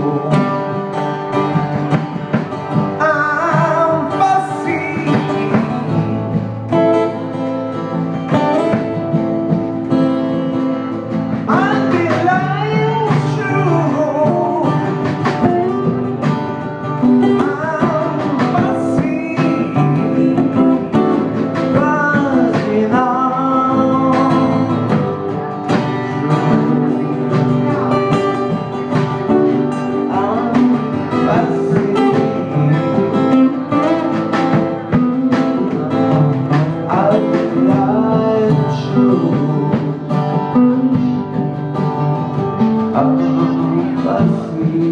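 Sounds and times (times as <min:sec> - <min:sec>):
acoustic guitars strumming: 0:00.0 - 0:44.9
man singing: 0:00.0 - 0:44.9.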